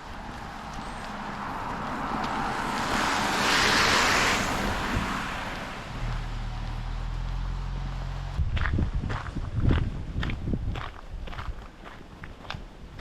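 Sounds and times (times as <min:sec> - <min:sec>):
car tyre noise passing: 0:00.0 - 0:10.5.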